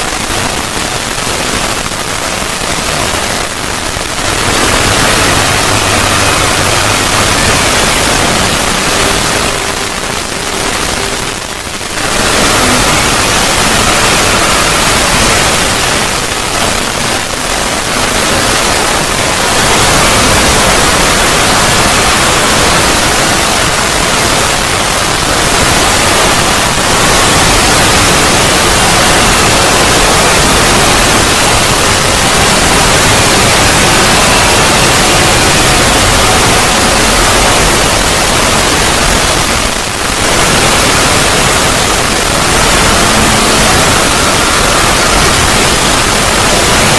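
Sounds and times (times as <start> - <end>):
faint steady tones: 0.0 - 46.9
harsh static noise: 0.0 - 46.9.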